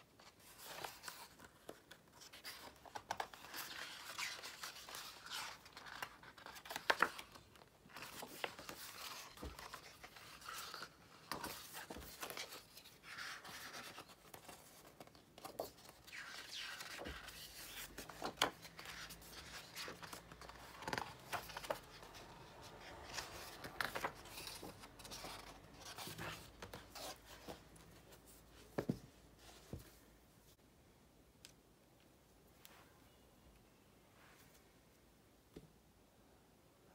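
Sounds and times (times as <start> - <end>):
book pages turning: 0.2 - 29.9.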